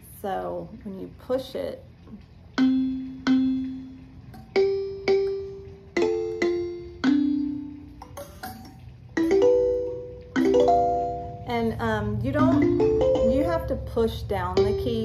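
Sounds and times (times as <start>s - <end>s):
electronic kalimba notes: 2.5s - 15.0s.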